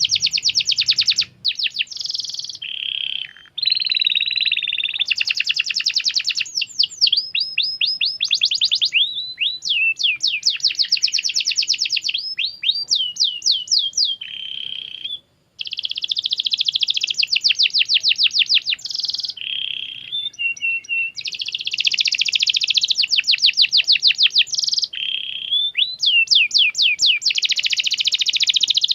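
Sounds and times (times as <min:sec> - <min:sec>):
canary singing trills: 0:00.0 - 0:28.9.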